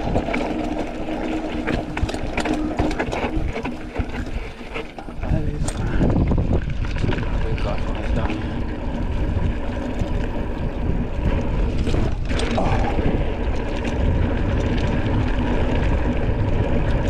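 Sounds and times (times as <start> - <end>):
bike rattling over dirt trail: 0.0 - 17.0
wind rumble on microphone: 0.0 - 17.0.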